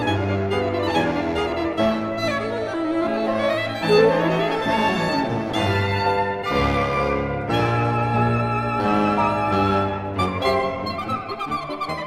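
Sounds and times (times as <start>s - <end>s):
chamber ensemble playing held notes: 0.0s - 12.0s.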